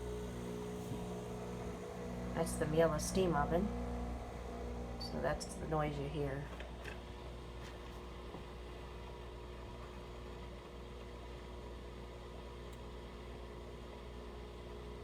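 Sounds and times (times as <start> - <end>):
steam oven humming: 0.0 - 15.0.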